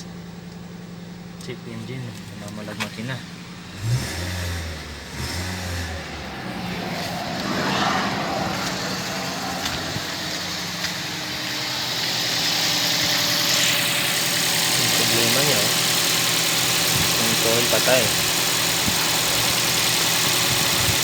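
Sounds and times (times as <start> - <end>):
car engine idling rough: 0.0 - 21.0.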